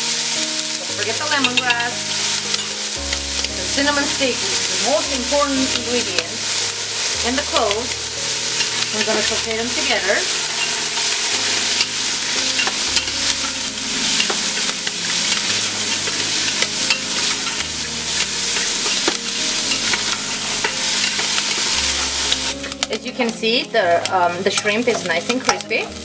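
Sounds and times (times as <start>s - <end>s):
food sizzling in hot oil: 0.0s - 26.0s
wooden spoon stirring: 0.5s - 26.0s.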